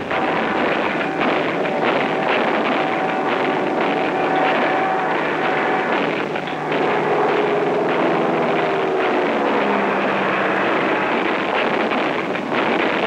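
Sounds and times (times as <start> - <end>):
aircraft engines droning overhead: 0.0 - 13.0.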